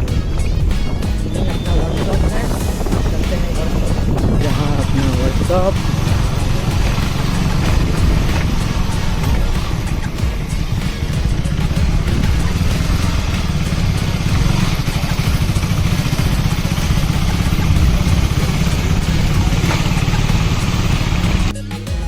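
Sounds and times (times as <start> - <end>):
motorcycle engine running: 0.0 - 21.5.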